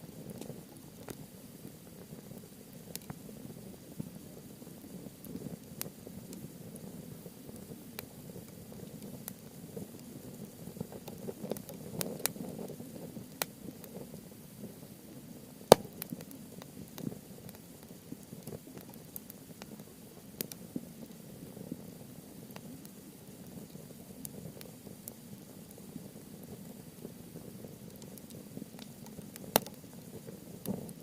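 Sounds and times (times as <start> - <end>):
fire crackling and popping: 0.0 - 31.0
wood fire flames rushing: 0.0 - 31.0.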